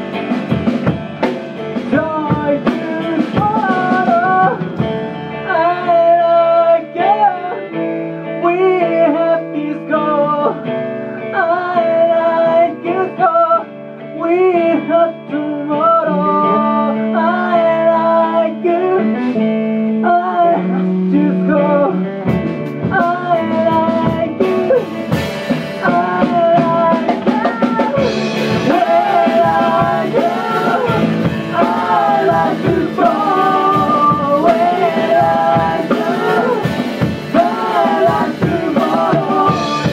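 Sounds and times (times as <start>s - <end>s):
rock band playing: 0.0s - 14.2s, 16.0s - 39.9s
person singing: 0.0s - 39.9s.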